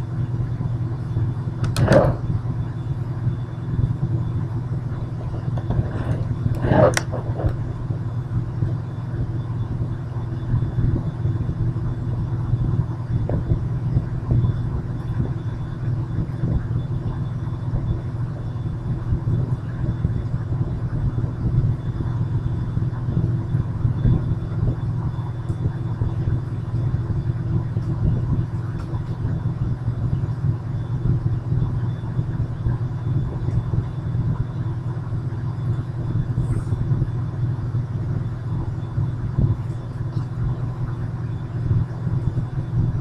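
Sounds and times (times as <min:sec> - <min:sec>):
low rumbling hum: 0:00.0 - 0:43.0.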